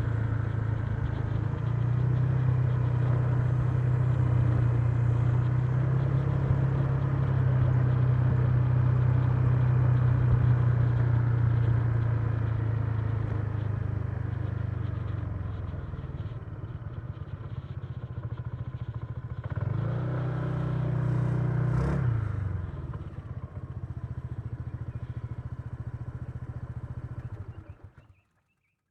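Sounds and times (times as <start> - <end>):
scooter engine running: 0.0 - 28.6.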